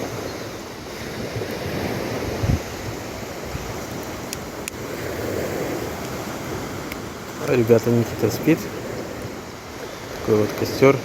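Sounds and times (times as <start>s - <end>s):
campfire crackles: 0.0s - 11.0s
gusty wind buffeting microphone: 0.0s - 11.0s
waves on the shore: 0.0s - 11.0s.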